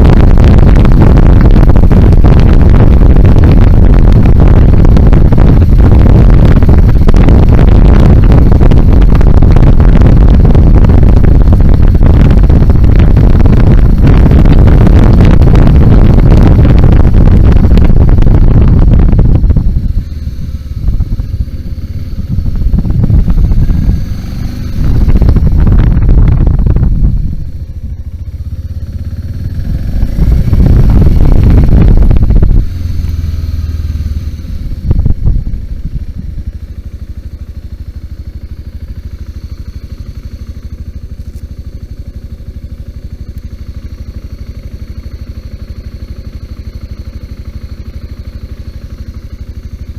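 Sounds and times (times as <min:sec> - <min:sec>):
wind noise on microphone: 0:00.0 - 0:43.0
motorcycle engine revving and idling: 0:00.0 - 0:49.9.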